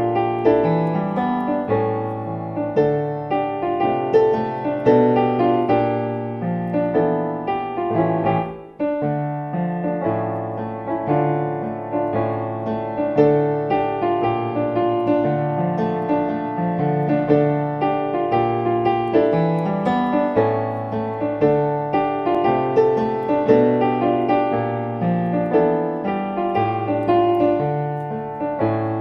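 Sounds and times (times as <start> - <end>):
solo piano playing: 0.0 - 29.0.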